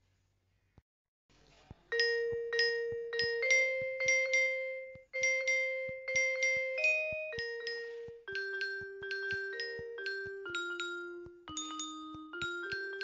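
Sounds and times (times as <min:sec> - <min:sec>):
bright struck ringing notes: 0:02.0 - 0:13.0.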